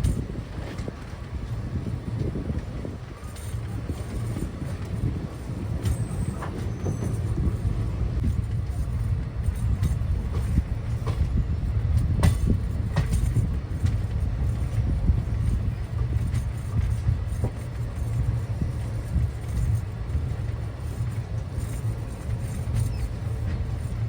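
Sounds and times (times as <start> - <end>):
train rumbling: 0.0 - 24.0
wheels clacking: 0.0 - 24.0.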